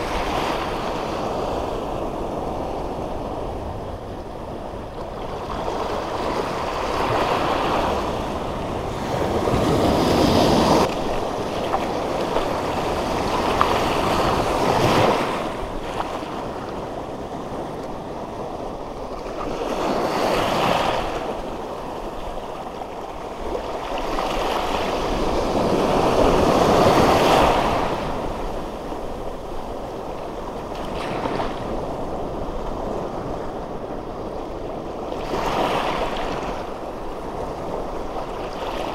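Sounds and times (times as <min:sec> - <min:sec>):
small waves washing over reef: 0:00.0 - 0:38.9.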